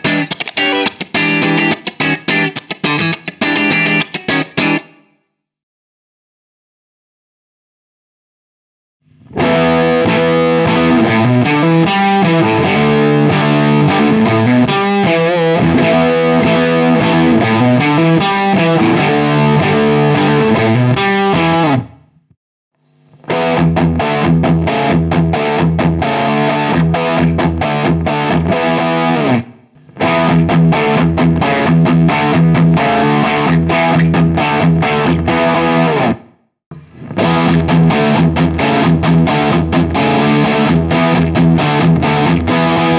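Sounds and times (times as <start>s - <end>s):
distorted electric guitar riffs: 0.0s - 5.2s, 9.0s - 42.9s.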